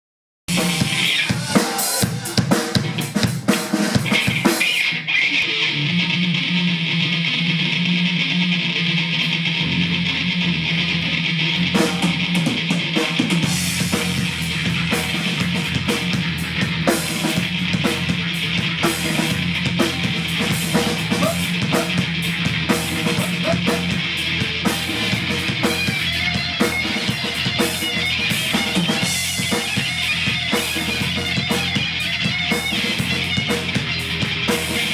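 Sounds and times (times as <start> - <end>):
drum kit: 0.5 - 5.0, 9.2 - 34.9
distorted electric guitars: 0.5 - 34.9.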